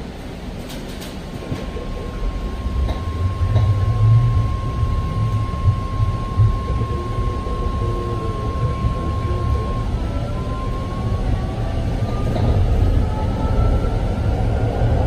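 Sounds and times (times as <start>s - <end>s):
train rumble: 0.0s - 15.0s
high whine: 1.5s - 15.0s.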